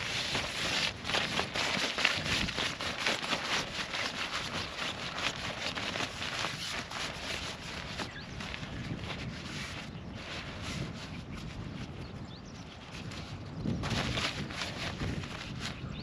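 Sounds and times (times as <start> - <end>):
tent fabric rustling and crinkling: 0.0 - 12.0, 12.9 - 16.0.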